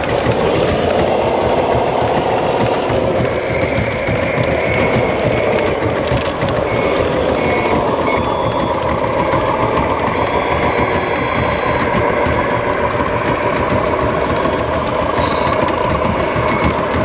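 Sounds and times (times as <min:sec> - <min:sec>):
diesel engine rumble: 0:00.0 - 0:17.0
reversing alarm beeps: 0:00.3 - 0:17.0.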